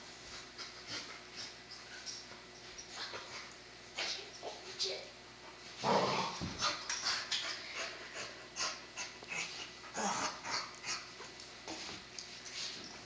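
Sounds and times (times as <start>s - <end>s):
dogs play-wrestling noises: 0.2s - 4.1s, 5.6s - 13.0s.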